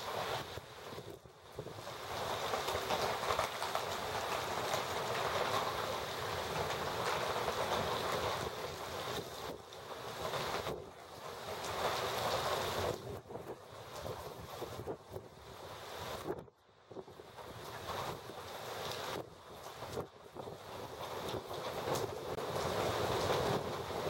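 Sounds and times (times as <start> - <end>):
rain downpour: 0.0 - 24.0
wind: 0.0 - 24.0.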